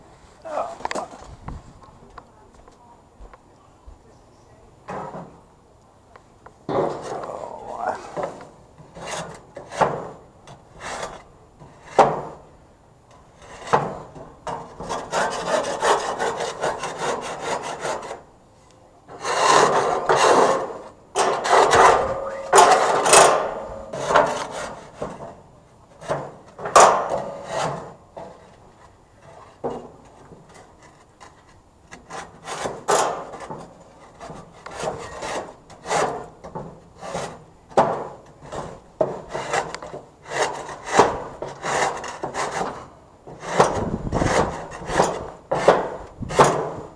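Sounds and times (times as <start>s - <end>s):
grill grates being scrubbed: 6.7s - 12.4s, 13.2s - 18.3s, 19.1s - 46.9s.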